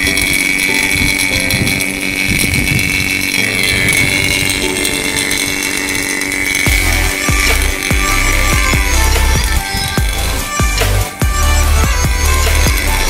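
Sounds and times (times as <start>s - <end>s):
machine humming with high whine: 0.0s - 13.0s.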